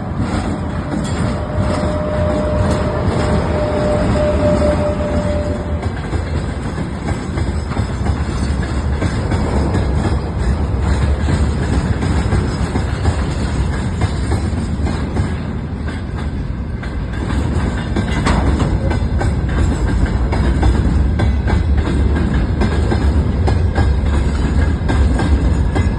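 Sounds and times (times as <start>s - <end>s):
rail joint clicks: 0.0s - 25.9s
train wheels rumbling on track: 0.0s - 25.9s.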